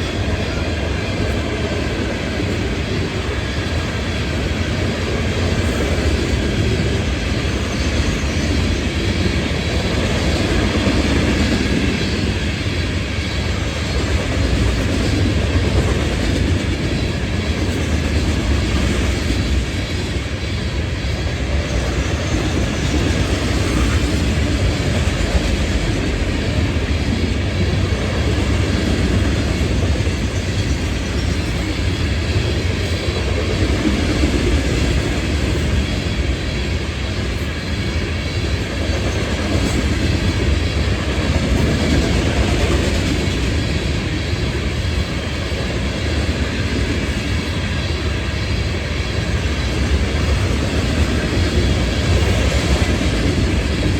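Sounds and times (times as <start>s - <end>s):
train rolling over rails: 0.0s - 53.9s.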